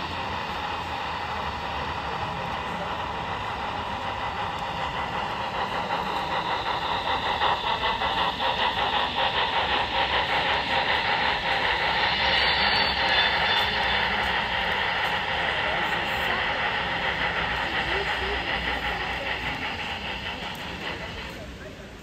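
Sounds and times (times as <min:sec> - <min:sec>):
model train clicking on tracks: 0:00.0 - 0:22.0.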